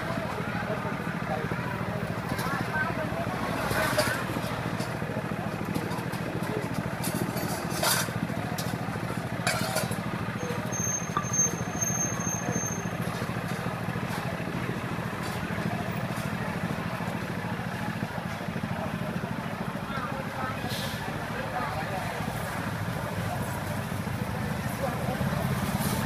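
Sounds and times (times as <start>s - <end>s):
background chatter: 0.0s - 26.0s
engine hum: 0.0s - 26.0s.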